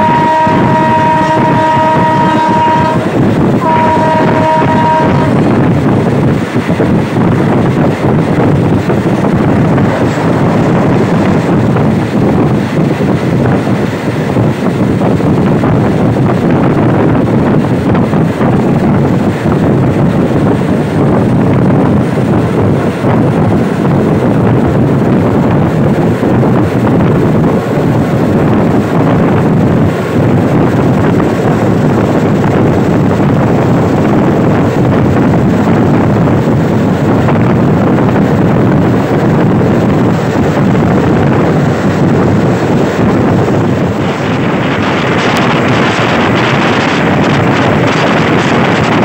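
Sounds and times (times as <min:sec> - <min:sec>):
train carriages rumbling on track: 0:00.0 - 0:49.0
wind rushing on microphone: 0:00.0 - 0:49.0.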